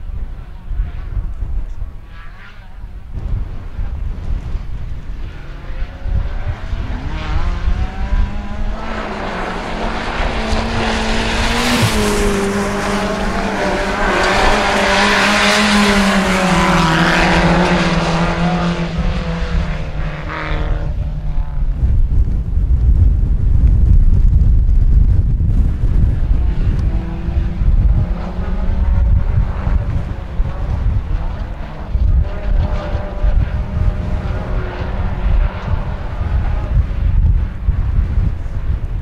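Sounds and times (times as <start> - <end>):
race car engines passing: 0.0 - 21.7, 25.7 - 39.0
wind rumble on microphone: 0.0 - 39.0.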